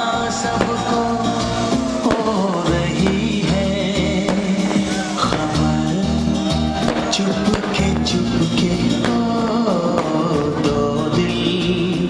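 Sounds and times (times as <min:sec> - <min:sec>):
song with singing and beat: 0:00.0 - 0:12.0.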